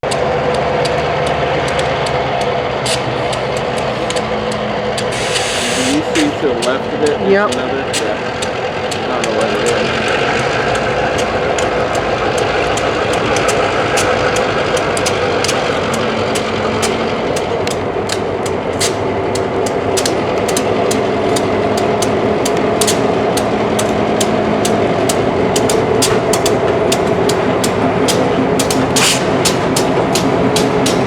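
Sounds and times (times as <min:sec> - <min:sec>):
engine droning hum: 0:00.0 - 0:31.0
sharp irregular clicks: 0:00.0 - 0:31.0.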